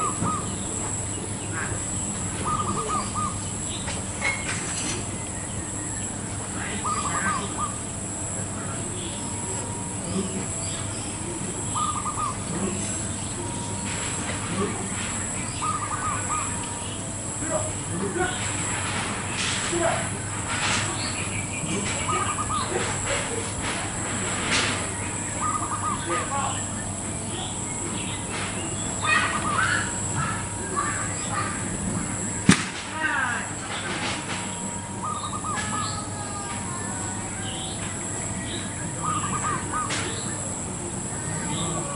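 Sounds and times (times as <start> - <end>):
dove cooing: 0.0 - 4.5, 5.1 - 32.5, 33.6 - 41.9
birds singing: 0.0 - 41.9.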